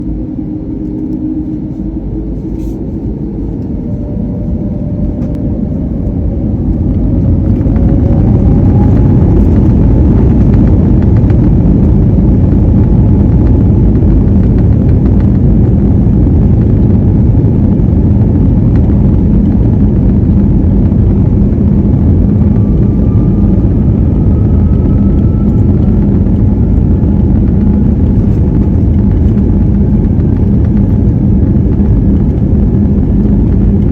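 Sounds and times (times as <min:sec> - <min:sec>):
jet engines roaring at take-off: 0:00.0 - 0:33.9.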